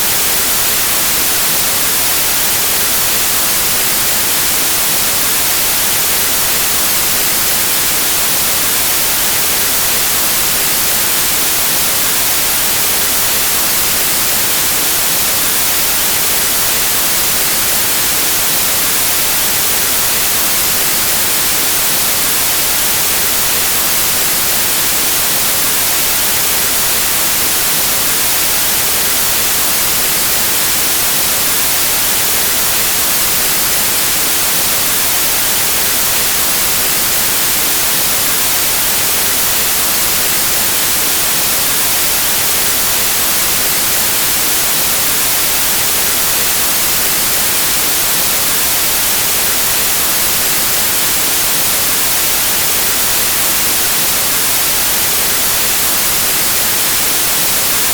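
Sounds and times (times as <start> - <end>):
static hiss: 0.0 - 57.9.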